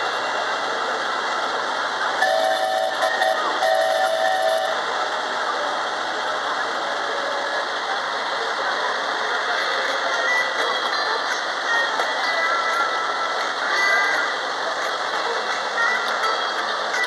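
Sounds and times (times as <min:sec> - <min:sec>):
ride train rolling on track: 0:00.0 - 0:17.0.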